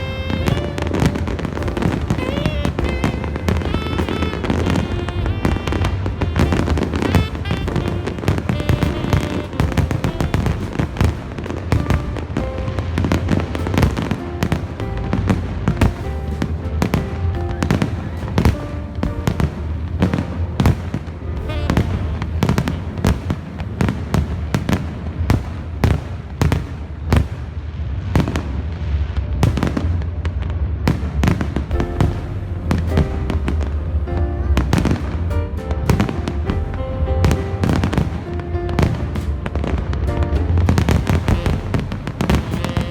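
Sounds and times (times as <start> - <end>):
music: 0.0 - 27.4, 28.1 - 42.9
fireworks bangs and crackles: 0.0 - 42.9
low rumble: 0.0 - 42.9.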